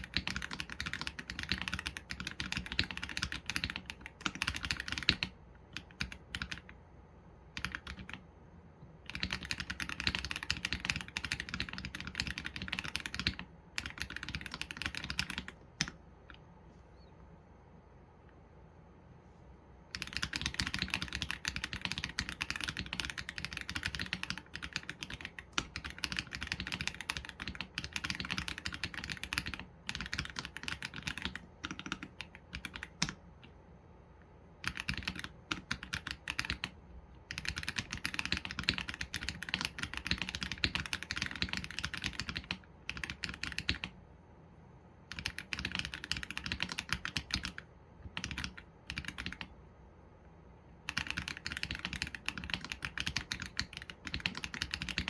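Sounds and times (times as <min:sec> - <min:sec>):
mechanical keyboard typing: 0:00.0 - 0:06.8, 0:07.5 - 0:08.3, 0:09.0 - 0:16.4, 0:19.9 - 0:33.6, 0:34.6 - 0:44.0, 0:45.1 - 0:49.6, 0:50.8 - 0:55.0.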